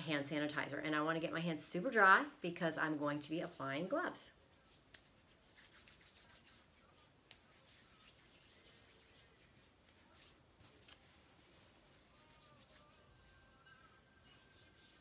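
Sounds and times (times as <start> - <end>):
hands rubbing together: 2.8 - 15.0.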